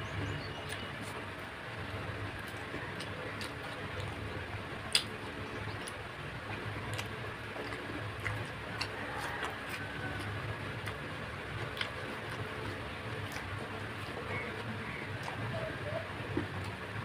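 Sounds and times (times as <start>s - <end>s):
steady low hum: 0.0s - 17.0s
wet chewing clicks: 0.2s - 1.2s, 1.8s - 17.0s.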